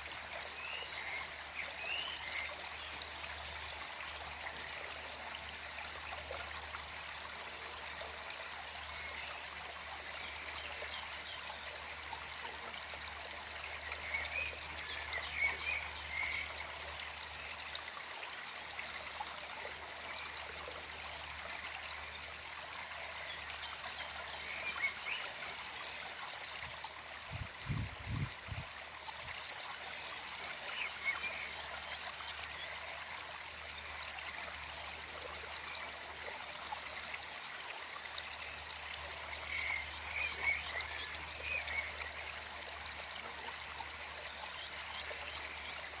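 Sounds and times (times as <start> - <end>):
stream trickling: 0.0 - 46.0.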